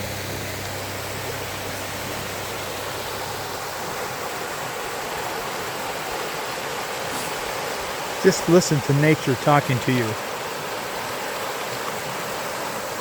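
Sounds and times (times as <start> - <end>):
flowing and falling water: 0.0 - 13.0.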